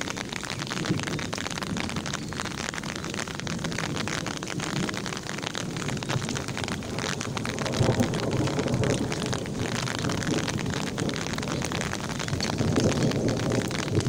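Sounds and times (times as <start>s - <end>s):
rain on concrete: 0.0s - 14.0s.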